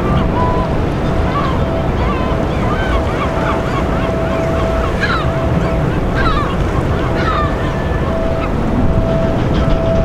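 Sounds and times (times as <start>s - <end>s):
birds calling: 0.0s - 10.0s
faint hum: 0.0s - 10.0s.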